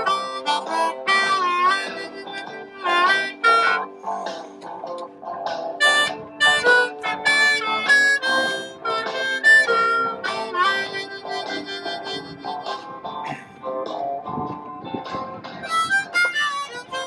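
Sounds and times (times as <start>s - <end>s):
harmonica playing: 0.0s - 4.7s, 5.8s - 13.6s, 15.6s - 17.0s.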